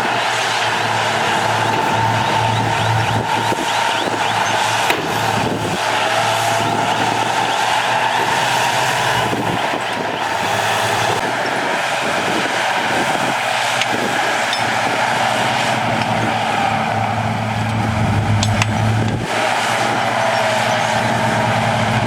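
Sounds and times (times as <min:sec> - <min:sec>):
constant high whine: 0:00.0 - 0:22.0
diesel engine running: 0:00.0 - 0:22.0.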